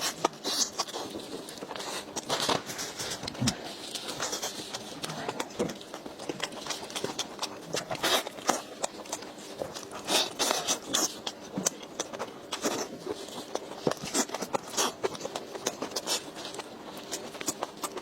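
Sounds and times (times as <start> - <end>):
chewing and mouth sounds: 0.0 - 18.0.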